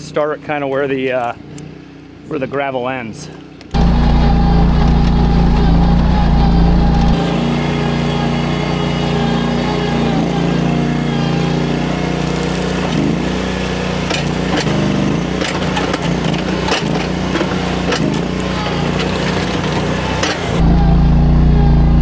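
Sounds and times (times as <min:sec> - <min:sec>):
asphalt millings crunching and rattling: 0:03.2 - 0:20.9
work machine engine running: 0:03.8 - 0:22.0.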